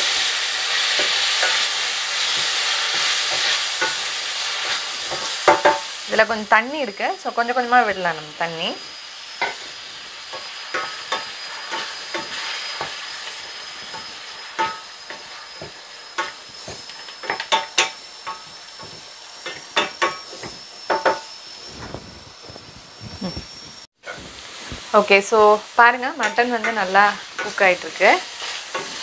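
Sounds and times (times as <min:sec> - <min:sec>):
meat and onions sizzling in a pan: 0:00.0 - 0:29.0.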